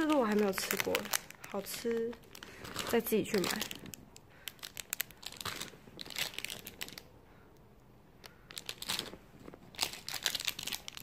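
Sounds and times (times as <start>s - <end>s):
close crinkling and rustling: 0.0s - 7.1s, 8.2s - 11.0s.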